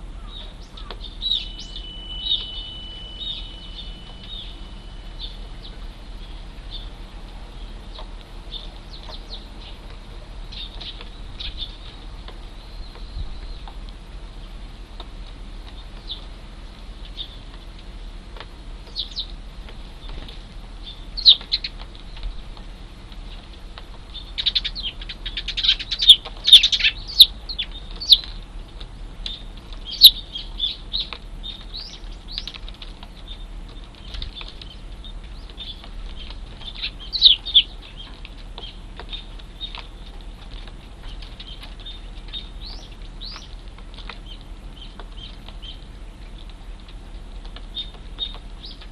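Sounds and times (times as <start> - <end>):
sparrows chirping: 0.0 - 14.6, 15.6 - 17.7, 18.8 - 22.5, 23.2 - 28.4, 29.2 - 46.4, 47.6 - 48.9.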